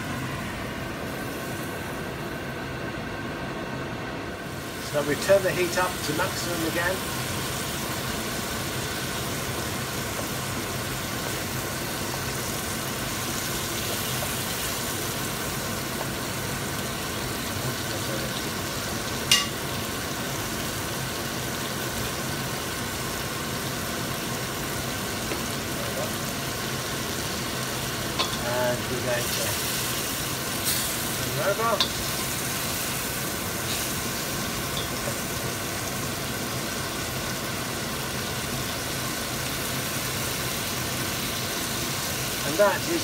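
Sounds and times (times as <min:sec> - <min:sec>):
fish sizzling in a wok: 0:04.3 - 0:43.0.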